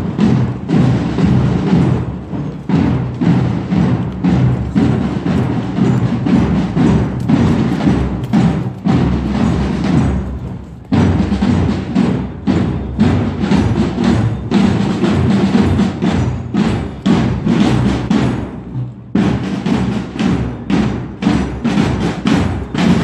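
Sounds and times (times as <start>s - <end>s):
drums beating marching rhythm: 0.0s - 23.0s.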